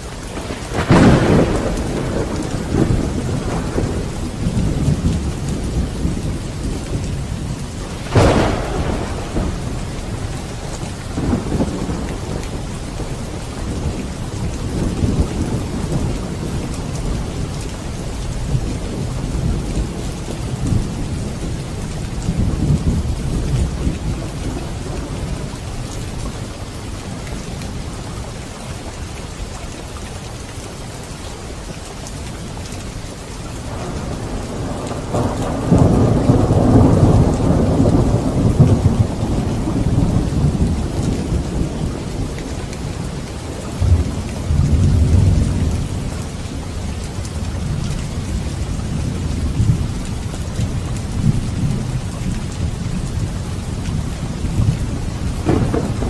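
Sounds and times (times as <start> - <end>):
heavy rain: 0.0 - 56.0
rolling thunder: 0.4 - 26.5, 33.6 - 56.0.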